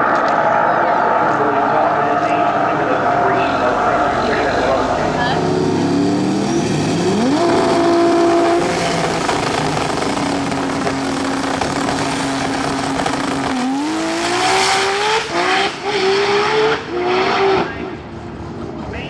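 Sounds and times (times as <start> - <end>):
drag-race car engine revving: 0.0 - 19.0.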